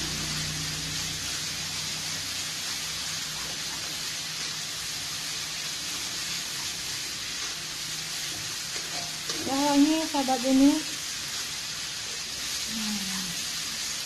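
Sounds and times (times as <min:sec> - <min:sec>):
chili paste sizzling in hot oil: 0:00.0 - 0:14.0.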